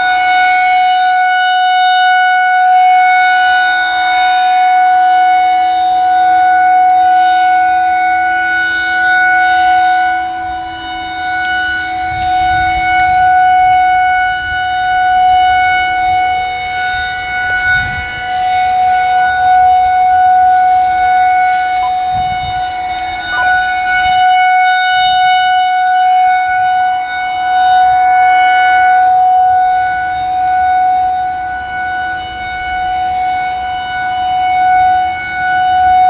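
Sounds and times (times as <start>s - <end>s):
rotating siren steady tone: 0.0s - 36.0s.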